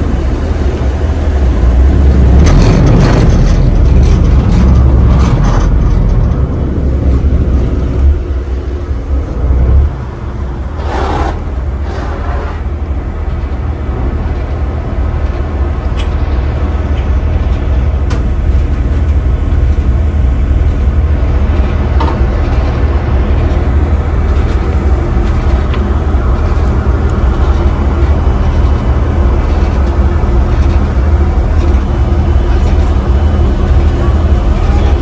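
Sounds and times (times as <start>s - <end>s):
ferry engine rumbling: 0.0s - 35.0s.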